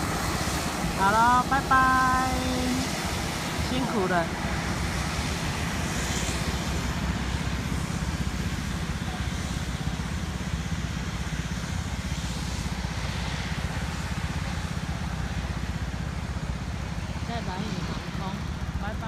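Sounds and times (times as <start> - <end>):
distant propeller plane engines: 0.0 - 19.0.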